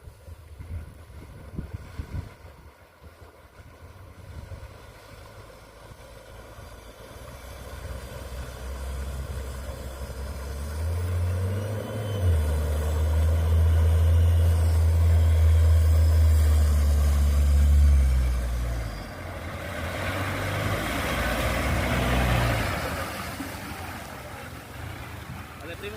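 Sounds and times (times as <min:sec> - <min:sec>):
pickup engine drone: 0:03.6 - 0:25.9.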